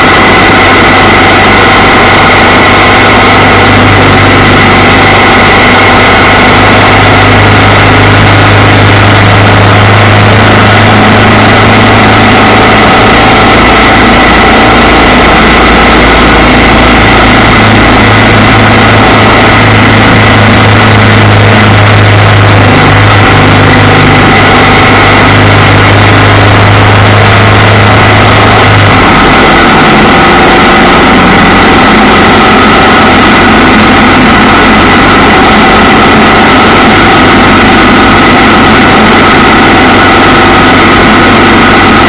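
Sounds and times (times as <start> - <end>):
motorcycle engine running: 0.0 - 42.0
wind and road noise: 0.0 - 42.0.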